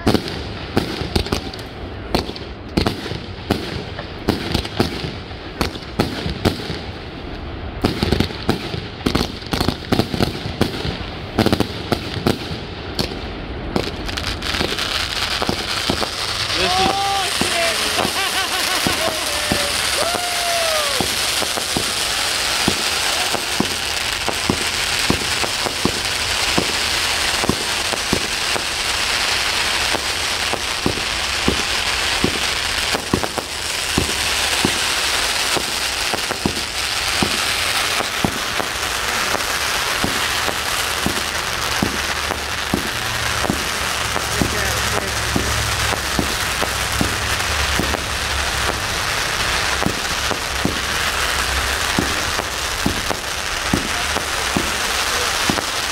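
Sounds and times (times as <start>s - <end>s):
fireworks crackling: 0.0s - 55.9s
fireworks shots: 0.0s - 55.9s.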